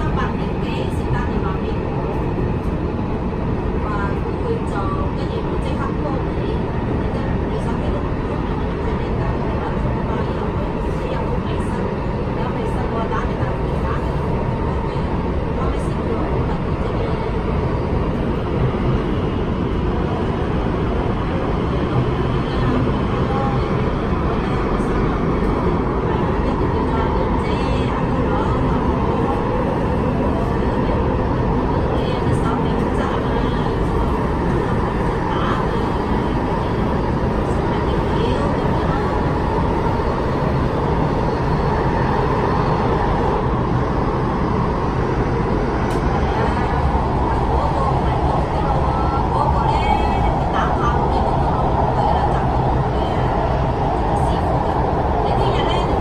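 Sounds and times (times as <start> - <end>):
train rumbling through a tunnel: 0.0 - 56.0.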